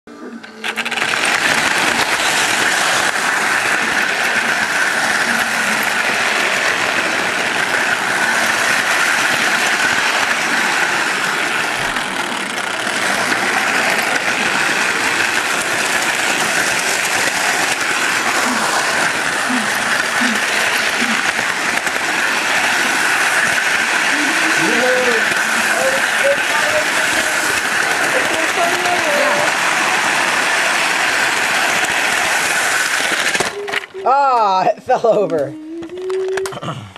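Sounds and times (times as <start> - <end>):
toy train motor and wheels running: 0.2 - 36.9.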